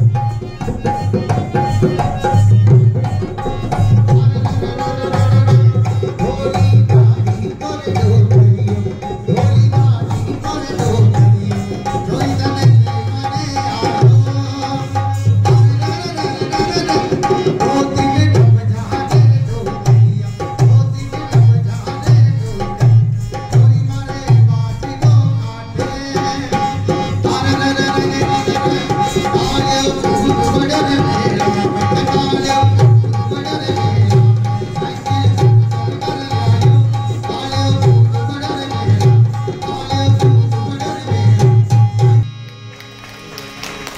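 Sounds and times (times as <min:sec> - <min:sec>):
harmonium melody: 0:00.0 - 0:43.9.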